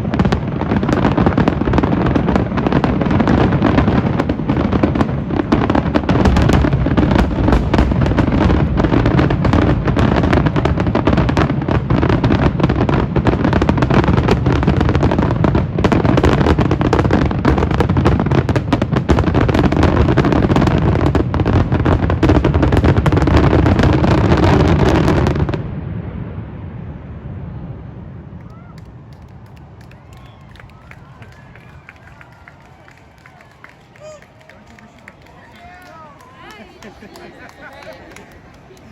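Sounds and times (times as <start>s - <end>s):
fireworks bangs and crackling: 0.0s - 38.9s
rumble of fireworks: 0.0s - 38.9s.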